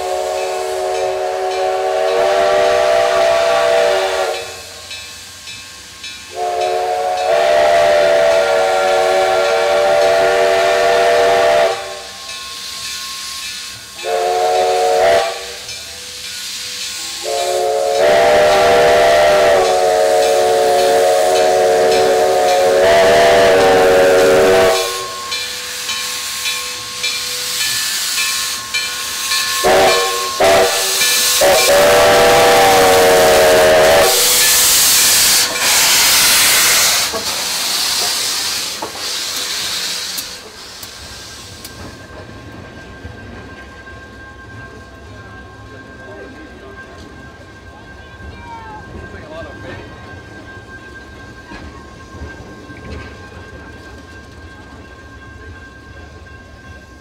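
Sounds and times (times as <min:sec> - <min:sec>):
steam hissing: 0:00.0 - 0:57.0
steam locomotive chime whistle: 0:00.0 - 0:57.0.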